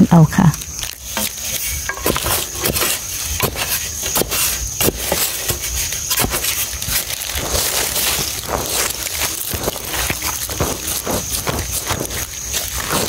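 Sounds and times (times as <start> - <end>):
spade digging into soil: 1.0 - 13.0.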